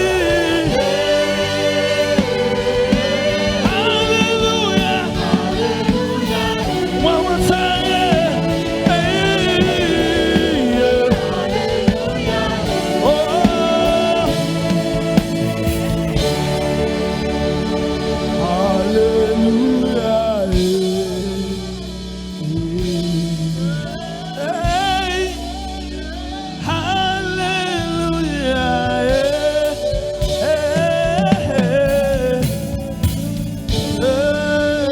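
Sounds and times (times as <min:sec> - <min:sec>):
choir singing gospel: 0:00.0 - 0:34.9
live band playing: 0:00.0 - 0:34.9.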